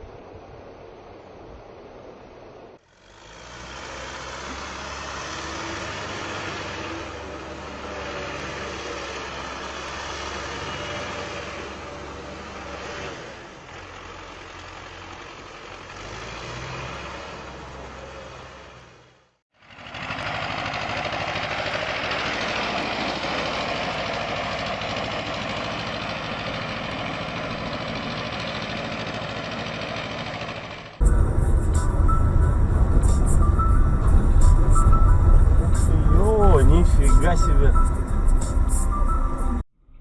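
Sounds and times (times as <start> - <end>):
road noise: 0.0 - 39.7
vehicle engine running: 2.8 - 39.6.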